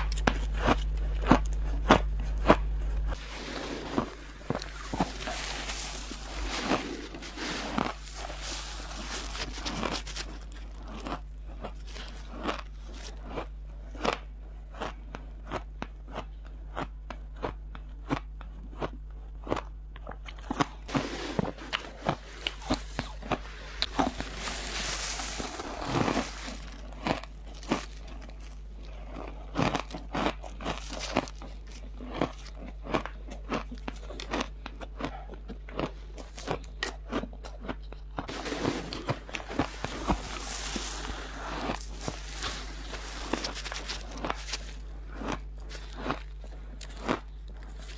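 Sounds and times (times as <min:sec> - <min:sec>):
steady low hum: 0:00.0 - 0:35.3, 0:36.0 - 0:47.8
chewing ice crunching: 0:00.0 - 0:47.9.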